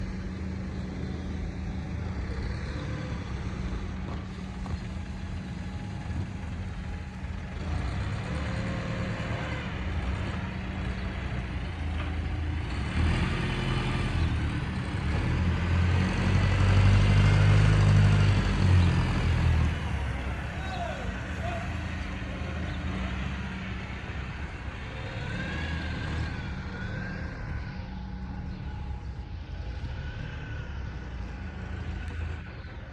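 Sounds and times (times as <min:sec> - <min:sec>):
truck engine rumbling: 0:00.0 - 0:32.9.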